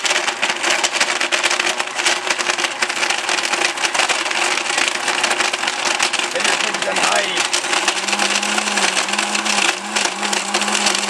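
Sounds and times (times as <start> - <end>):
blender motor hum: 0.0 - 11.0
ice crackling in blender: 0.0 - 11.0.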